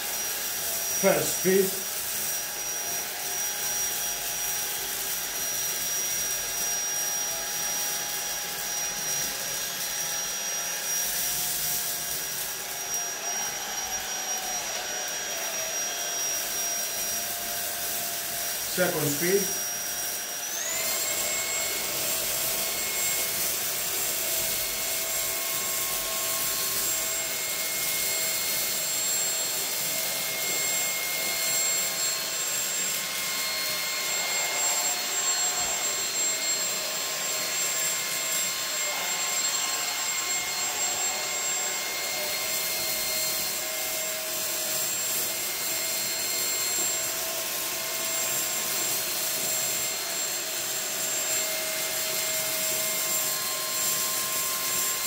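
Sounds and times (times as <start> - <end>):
stick vacuum cleaner running: 0.0 - 55.0.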